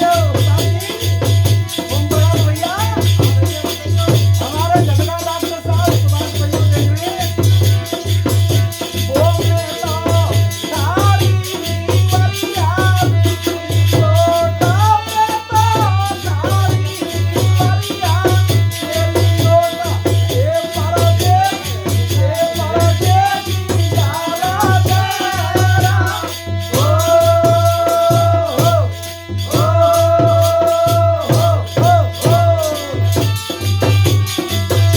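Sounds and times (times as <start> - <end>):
repeating drum beat: 0.0 - 34.9.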